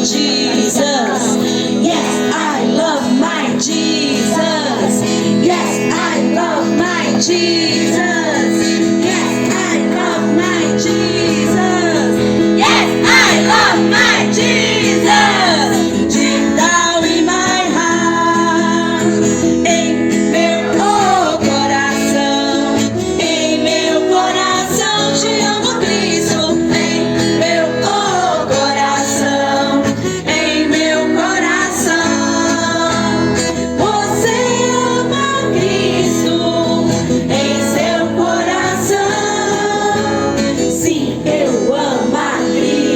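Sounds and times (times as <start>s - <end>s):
guitar: 0.0s - 42.9s
person singing: 0.0s - 42.9s.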